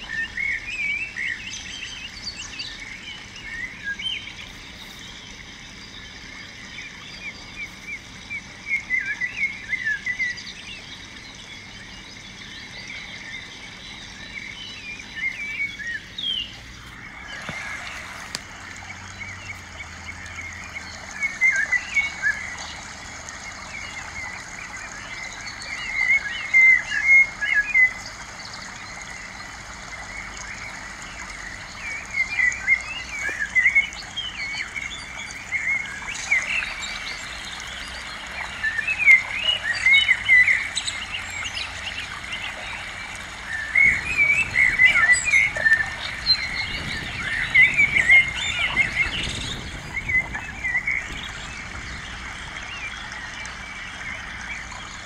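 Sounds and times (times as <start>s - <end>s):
small birds twittering: 0.0s - 55.0s.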